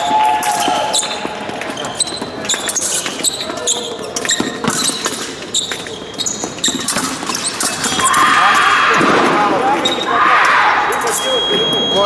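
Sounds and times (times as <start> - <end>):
shoes squeaking on piste: 0.0 - 9.0, 9.6 - 12.0.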